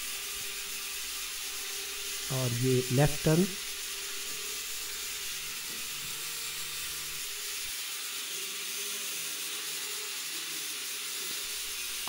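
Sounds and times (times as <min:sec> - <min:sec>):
quadcopter motors whirring: 0:00.0 - 0:12.0.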